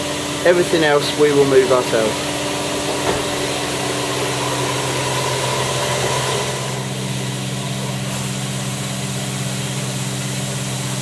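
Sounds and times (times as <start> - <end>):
carpet cleaning machine droning: 0.0 - 11.0.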